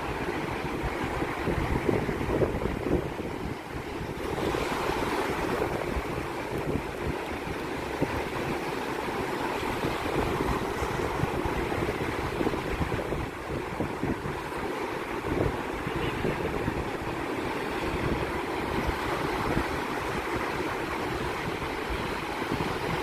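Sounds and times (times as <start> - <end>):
surf washing on shore: 0.0 - 23.0
wind buffeting microphone: 0.0 - 23.0.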